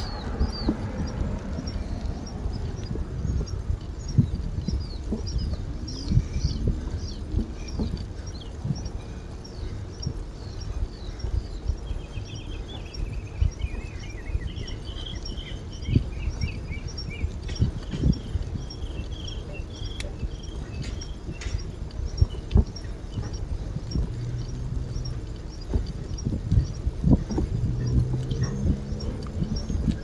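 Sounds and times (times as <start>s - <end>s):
bicycle bumps on path: 0.0s - 30.0s
faint high ticking: 0.0s - 30.0s
small birds chirping: 0.0s - 30.0s
wind rumble: 0.0s - 30.0s.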